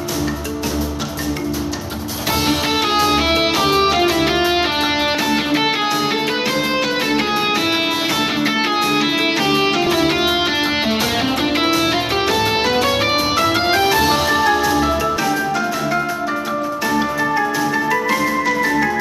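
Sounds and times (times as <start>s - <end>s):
fast game music with guitar: 0.0s - 19.0s.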